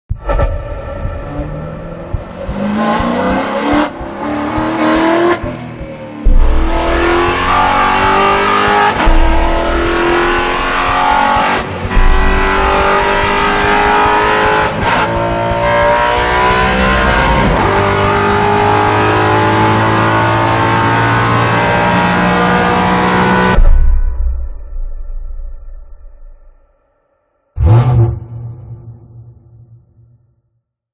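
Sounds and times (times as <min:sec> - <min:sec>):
race car engine accelerating: 0:00.8 - 0:23.6, 0:27.6 - 0:29.6.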